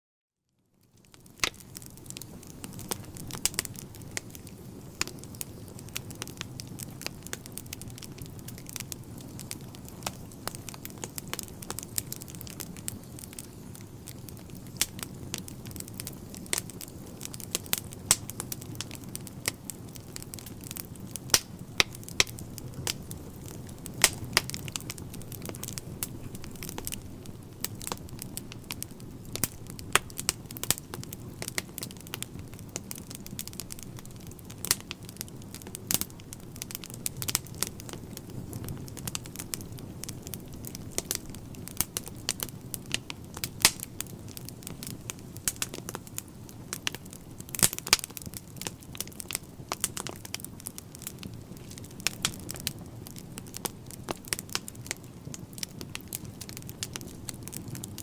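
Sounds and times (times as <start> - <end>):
burning logs crackling and popping: 0.6 - 58.0
low rush of flames: 0.8 - 58.0.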